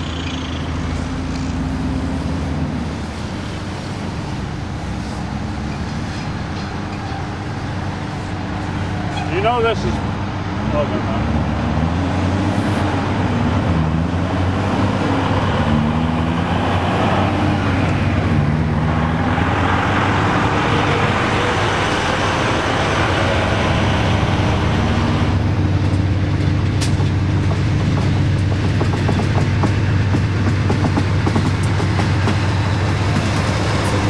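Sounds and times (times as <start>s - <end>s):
large engine droning: 0.0s - 34.0s.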